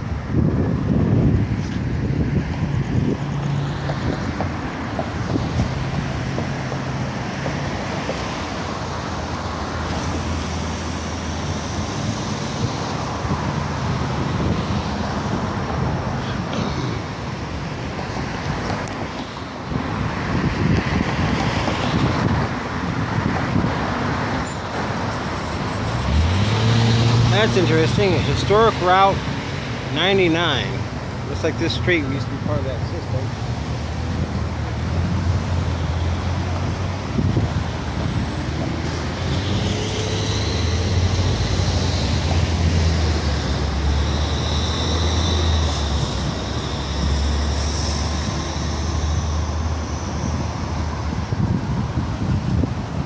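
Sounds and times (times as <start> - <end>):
passing cars and trucks: 0.0 - 53.0.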